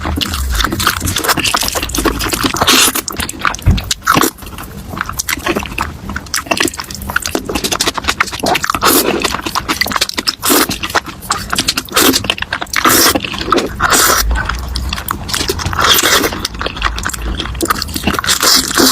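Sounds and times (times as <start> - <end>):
person slurping and chewing noodles: 0.0 - 18.9.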